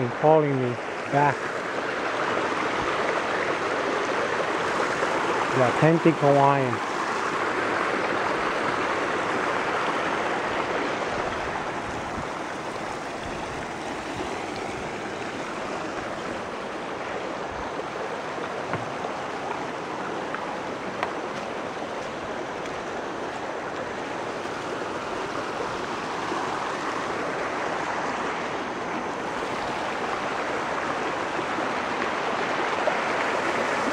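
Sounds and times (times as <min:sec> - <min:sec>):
stream of running water: 0:00.0 - 0:33.9.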